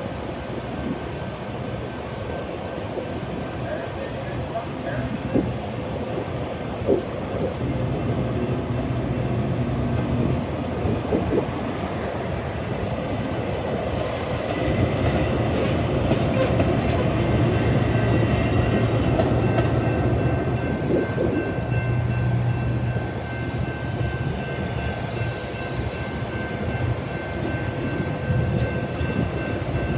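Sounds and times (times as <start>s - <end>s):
diesel locomotive drone: 0.0s - 29.9s.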